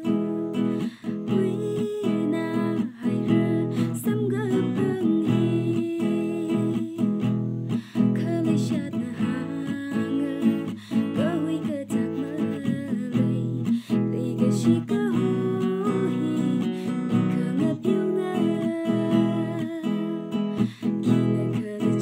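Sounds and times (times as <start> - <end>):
acoustic guitar strumming: 0.0 - 22.0
woman singing: 0.0 - 22.0.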